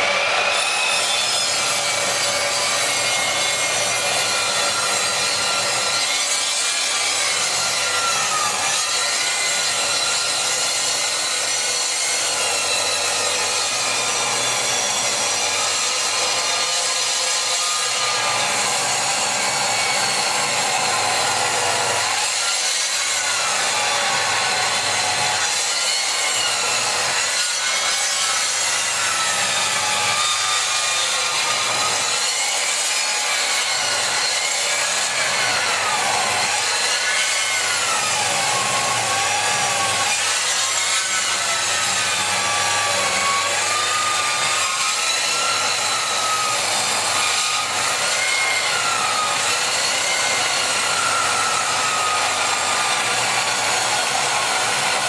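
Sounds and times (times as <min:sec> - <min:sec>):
mitre saw cutting wood: 0:00.0 - 0:55.0.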